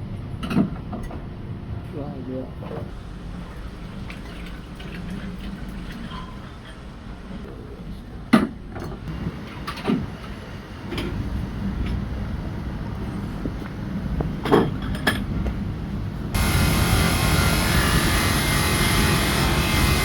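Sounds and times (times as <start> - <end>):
low workshop hum: 0.0 - 20.0.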